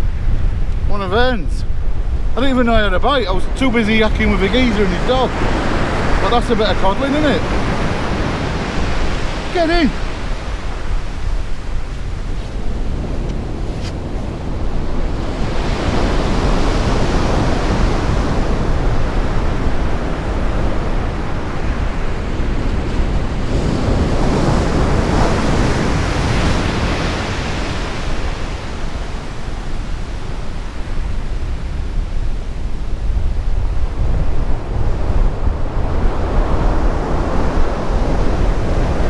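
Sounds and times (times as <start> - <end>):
sea surf breaking on beach: 0.0 - 39.0
wind rumbling on microphone: 0.0 - 39.0.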